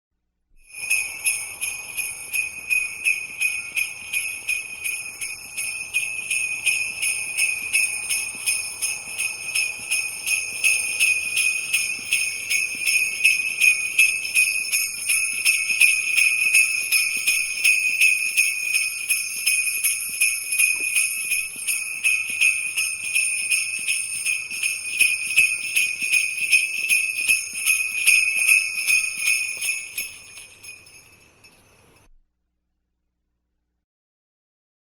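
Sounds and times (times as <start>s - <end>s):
jingle bells shaken: 0.6s - 32.1s.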